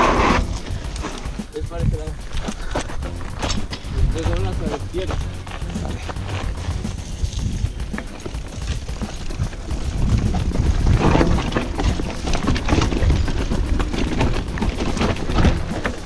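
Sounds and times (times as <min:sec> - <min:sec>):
bike rattling over bumps: 0:00.0 - 0:16.0
tyres on dirt and stones: 0:00.0 - 0:16.0
wind buffeting microphone: 0:00.0 - 0:16.0.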